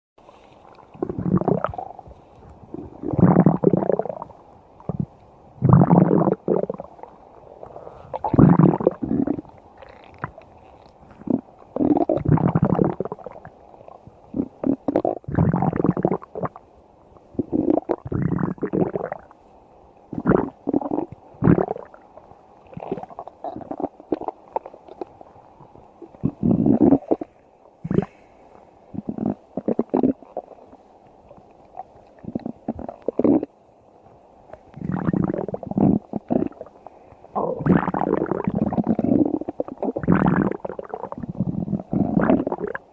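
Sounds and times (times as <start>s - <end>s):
stomach growling: 0.3s - 19.4s, 20.1s - 28.3s, 28.9s - 33.6s, 34.5s - 42.9s.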